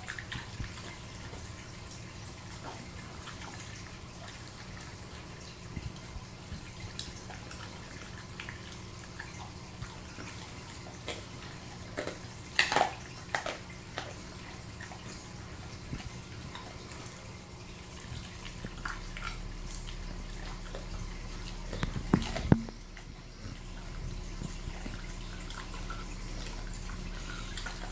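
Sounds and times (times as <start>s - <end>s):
dog chewing and crunching: 0.0s - 27.9s
steady low hum: 0.0s - 27.9s.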